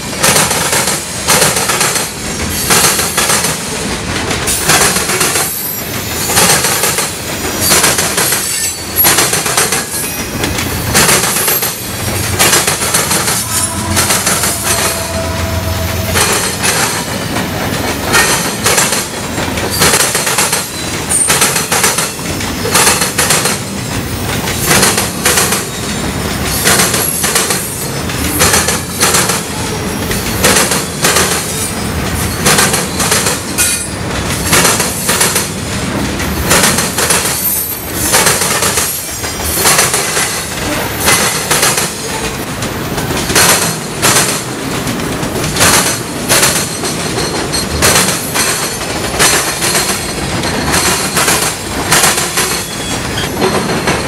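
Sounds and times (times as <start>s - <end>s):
steel wheels clicking over track: 0.2s - 15.3s, 16.1s - 29.5s, 30.2s - 54.0s.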